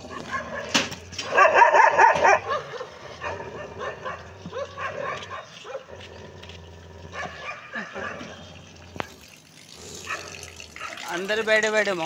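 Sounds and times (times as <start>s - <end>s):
dogs barking and yelping: 0.0s - 9.2s, 10.0s - 11.2s.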